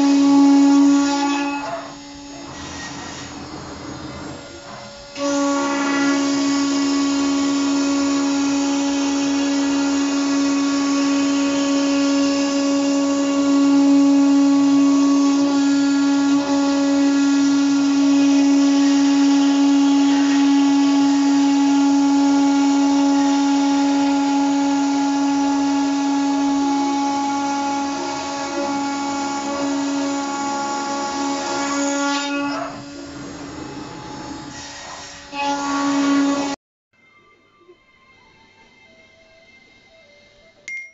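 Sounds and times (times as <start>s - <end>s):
cnc router spindle whine: 0.0s - 36.6s.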